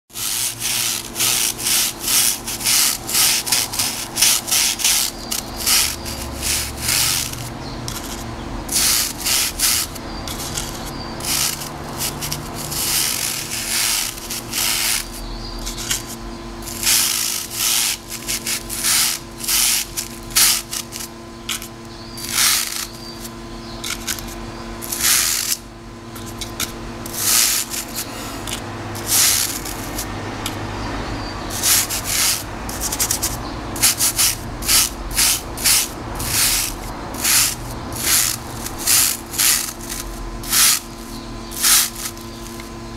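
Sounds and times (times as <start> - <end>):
toothbrush scrubbing wire mesh: 0.1 - 25.6, 26.2 - 30.6, 31.5 - 42.7.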